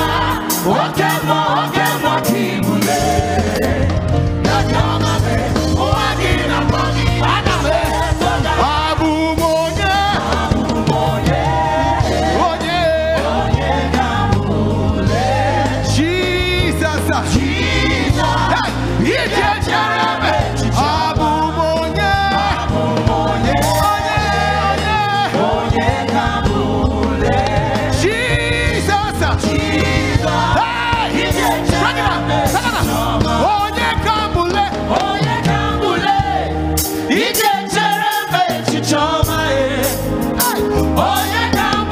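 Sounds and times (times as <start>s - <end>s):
backing vocalists singing: 0.0s - 41.9s
gospel band playing: 0.0s - 41.9s
male lead singer: 0.0s - 41.9s.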